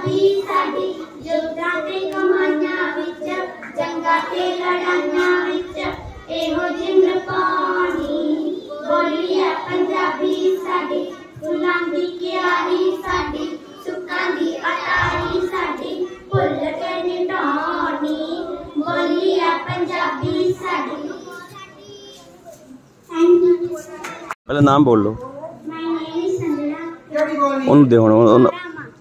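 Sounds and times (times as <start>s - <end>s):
child singing: 0.0s - 24.3s, 25.3s - 27.0s.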